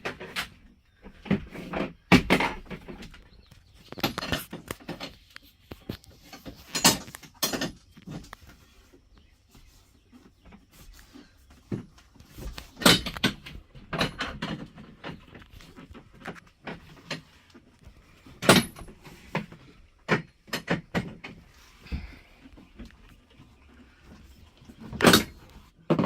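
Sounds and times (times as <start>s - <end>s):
knocks and clunks of hand work: 0.0s - 9.0s, 9.6s - 26.0s.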